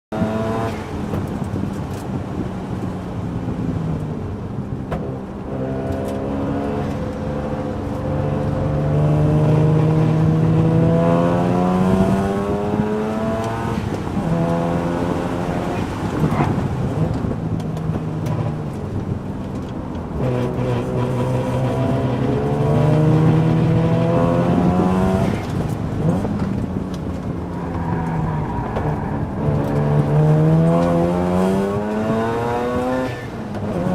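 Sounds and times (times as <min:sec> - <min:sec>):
car engine revving: 0:05.0 - 0:17.4, 0:18.2 - 0:33.9.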